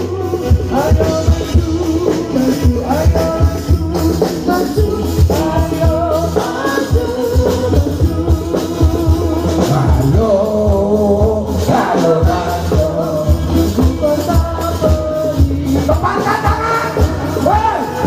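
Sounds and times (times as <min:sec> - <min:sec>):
rhythmic hand percussion: 0:00.0 - 0:18.0
voices singing devotional music: 0:00.0 - 0:18.0.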